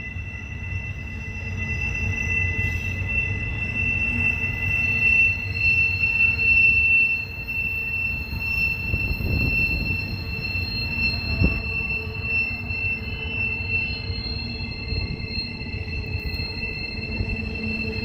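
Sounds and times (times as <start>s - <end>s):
train wheels squealing: 0.0s - 18.0s.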